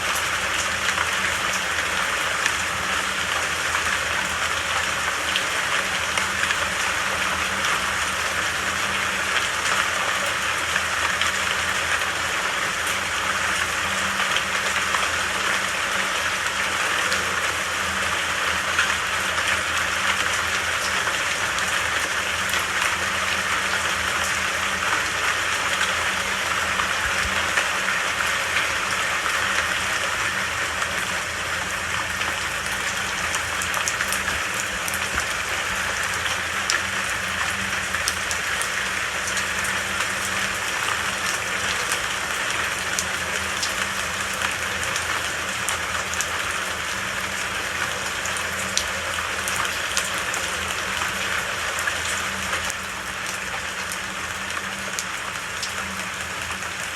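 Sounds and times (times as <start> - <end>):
rain pattering on leaves: 0.0 - 56.9.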